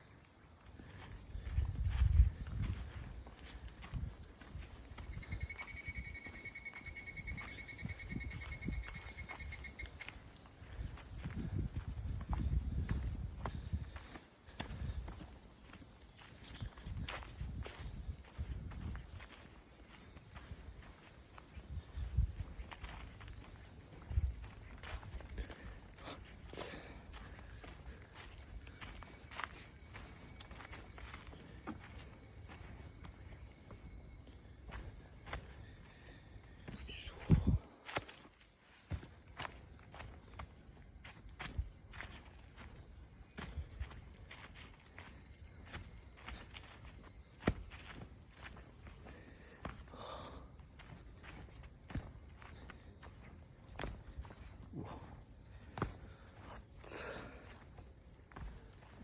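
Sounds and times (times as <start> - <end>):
footsteps on forest path: 0.0 - 59.0
high-pitched insect chorus: 0.0 - 59.0.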